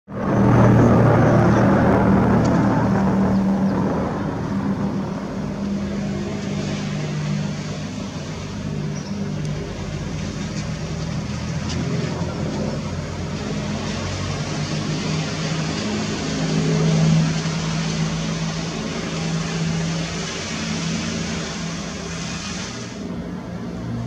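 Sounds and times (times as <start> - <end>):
propeller aircraft droning overhead: 0.0 - 24.0.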